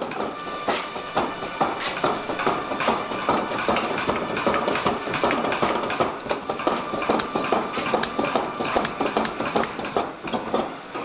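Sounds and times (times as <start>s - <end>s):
power hammer striking hot steel: 0.0s - 11.0s.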